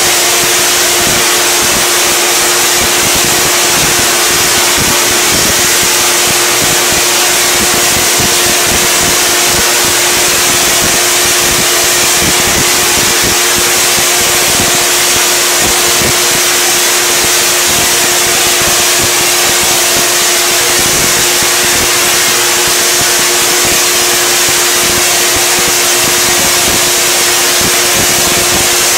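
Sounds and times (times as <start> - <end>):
tesla coil spark buzz: 0.0 - 28.9.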